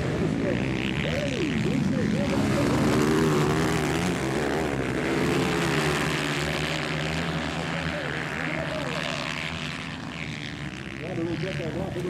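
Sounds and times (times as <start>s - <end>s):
dirt bike engines droning: 0.0s - 12.0s.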